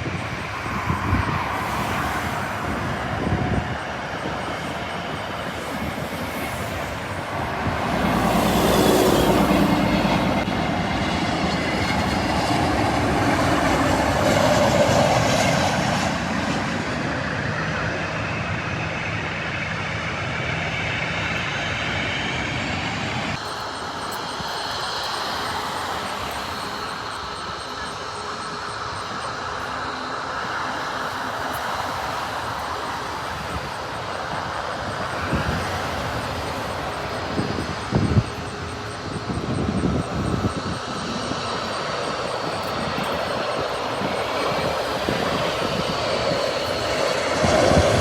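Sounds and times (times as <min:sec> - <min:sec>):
jet engines roaring and whining: 0:00.0 - 0:48.0.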